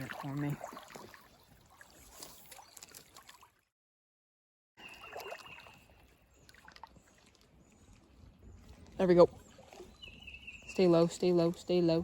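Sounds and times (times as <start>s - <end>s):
faint flowing river water: 0.0s - 3.8s, 4.8s - 12.0s.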